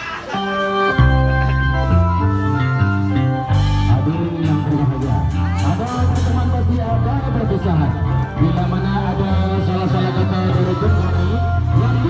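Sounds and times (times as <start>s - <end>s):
loud amplified band music: 0.0s - 12.0s.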